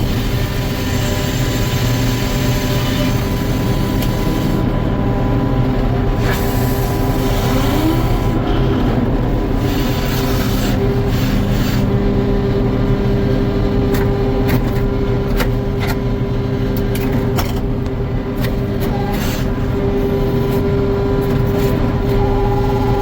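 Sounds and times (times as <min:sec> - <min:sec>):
sawmill machinery hum: 0:00.0 - 0:23.0.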